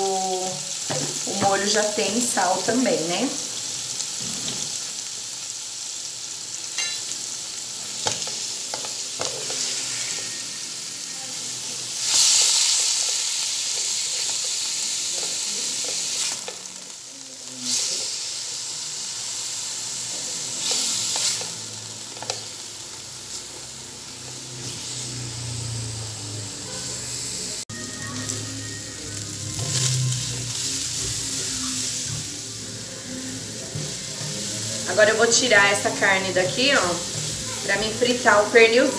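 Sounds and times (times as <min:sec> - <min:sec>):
meat sizzling in hot oil: 0:00.0 - 0:38.9.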